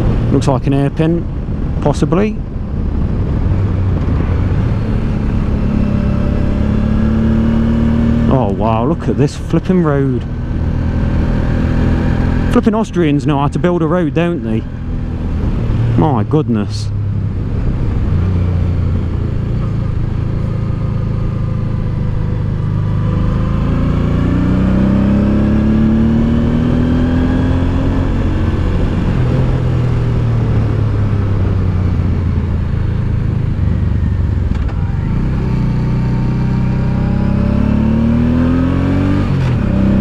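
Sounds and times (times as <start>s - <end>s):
motorcycle engine accelerating: 0.0s - 40.0s
wind and road noise: 0.0s - 40.0s.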